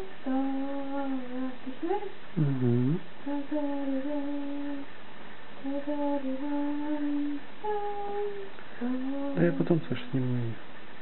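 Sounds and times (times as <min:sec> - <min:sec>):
woman humming a lullaby: 0:00.0 - 0:04.9, 0:05.6 - 0:09.7.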